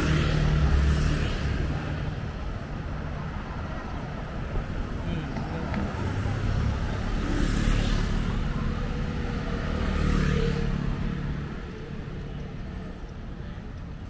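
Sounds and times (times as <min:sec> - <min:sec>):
vehicles passing with low rumble: 0:00.0 - 0:14.0.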